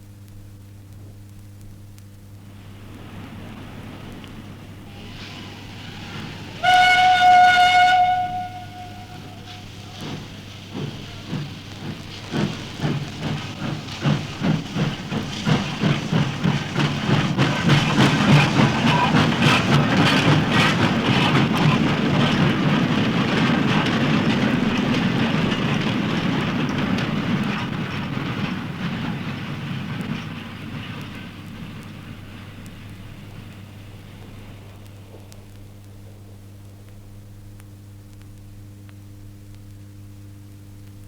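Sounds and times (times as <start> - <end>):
train running on rails: 2.2 - 39.3.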